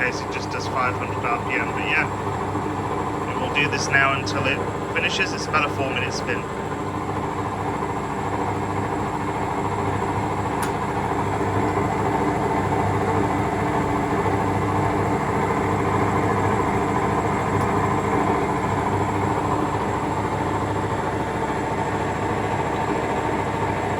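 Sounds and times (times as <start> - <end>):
washing machine spinning: 0.0 - 23.9.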